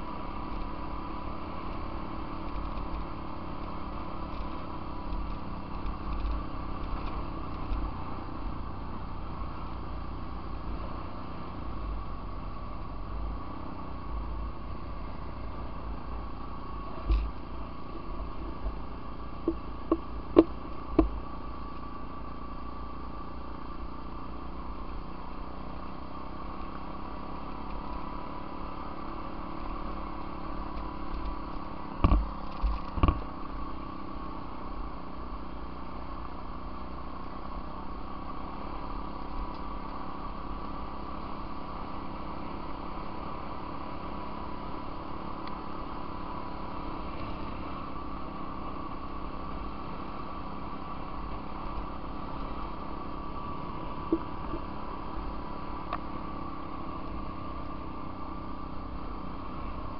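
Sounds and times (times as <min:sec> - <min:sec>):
motorbike engine running: 0:00.0 - 0:25.9, 0:26.5 - 0:59.9.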